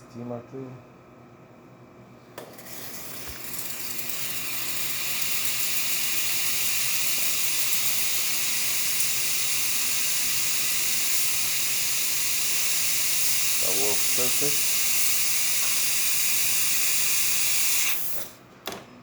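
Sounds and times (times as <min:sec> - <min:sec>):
steam hissing from wand: 0:03.1 - 0:18.4.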